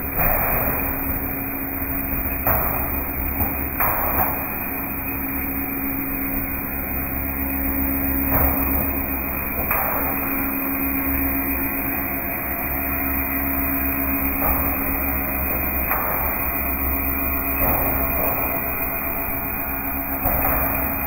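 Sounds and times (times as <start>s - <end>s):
roll forming machine humming: 0.0s - 21.0s.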